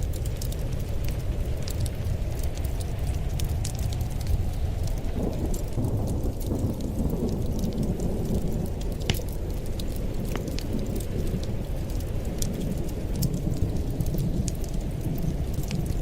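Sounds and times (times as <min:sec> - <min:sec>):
fire crackling and popping: 0:00.0 - 0:16.0
wood fire roaring: 0:00.0 - 0:16.0.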